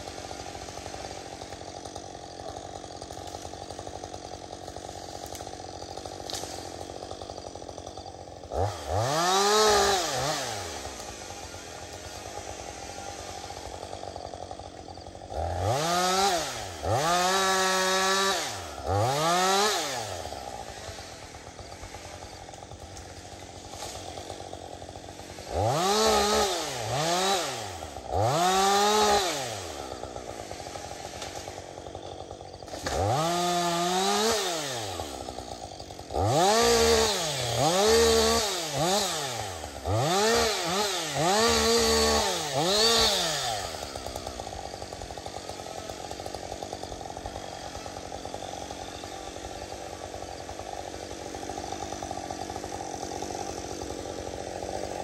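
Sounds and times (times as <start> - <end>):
chainsaw cutting and revving: 0.0 - 55.0
chainsaw idling: 0.0 - 55.0.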